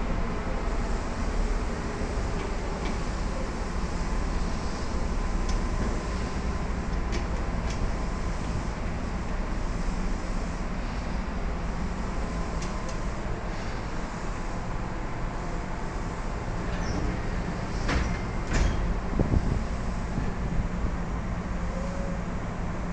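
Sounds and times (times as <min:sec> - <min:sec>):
train wheels on rails: 0:00.0 - 0:22.9.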